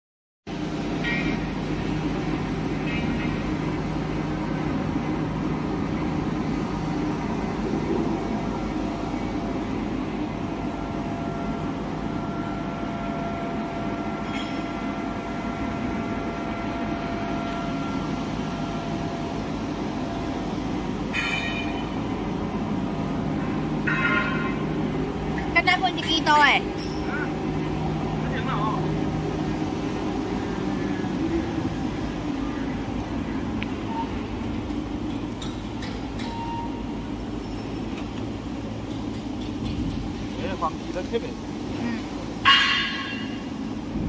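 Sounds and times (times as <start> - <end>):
machine running with hum: 0.5 - 44.0.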